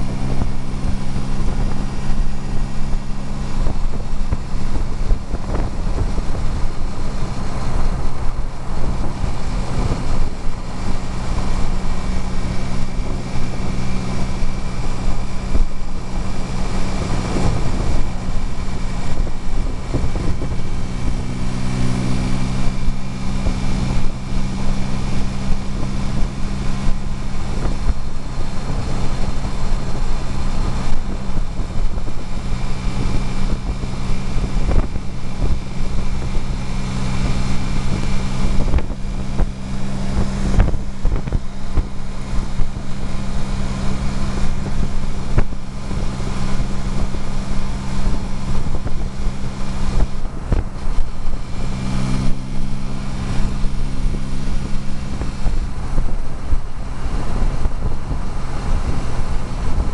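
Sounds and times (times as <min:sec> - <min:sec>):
car engine droning: 0:00.0 - 0:59.9
wind buffeting microphone: 0:00.0 - 0:59.9.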